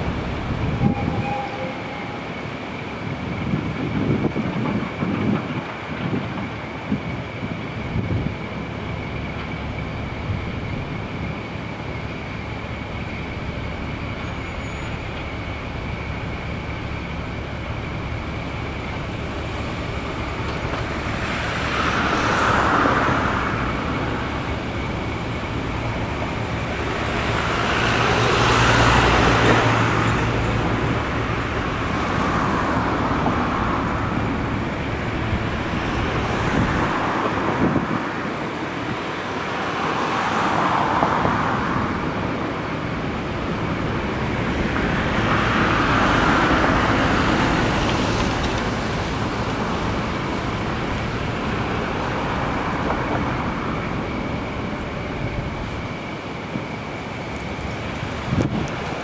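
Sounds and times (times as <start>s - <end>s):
diesel locomotives idling: 0.0s - 59.0s
vehicles passing: 7.7s - 59.0s.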